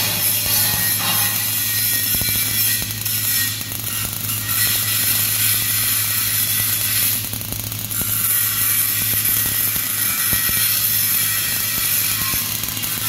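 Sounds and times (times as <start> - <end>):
constant low hum: 0.0 - 13.0
welding arc crackling and hissing: 0.0 - 13.0.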